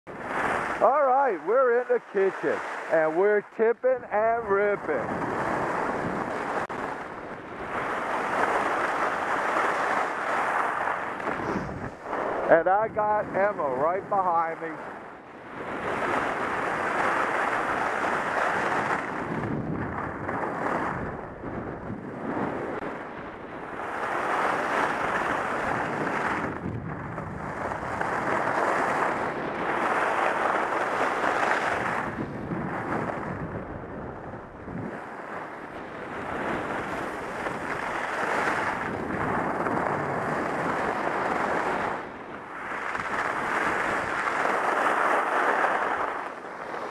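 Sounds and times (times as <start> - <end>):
wind rushing over microphone: 0.1 - 46.9
skis running over snow: 4.4 - 14.8, 15.6 - 22.8, 23.8 - 33.4, 34.9 - 46.9.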